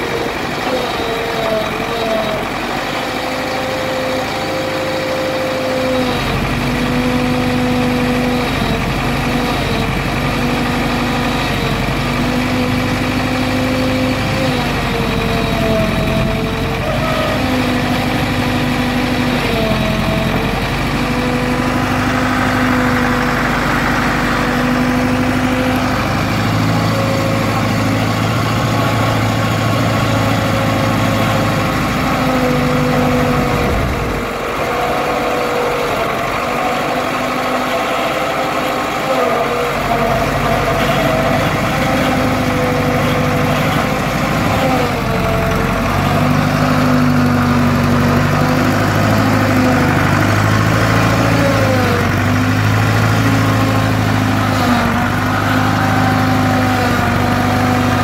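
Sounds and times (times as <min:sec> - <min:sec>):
backhoe diesel engine running: 0:00.0 - 0:58.0.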